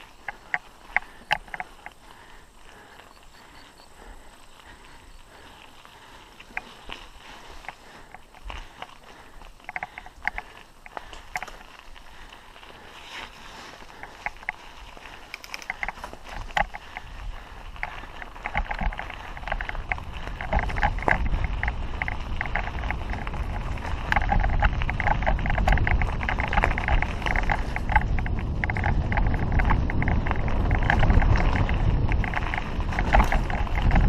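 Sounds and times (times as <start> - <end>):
bike rattling over dirt trail: 0.0 - 34.0
wind rumble on microphone: 0.0 - 34.0.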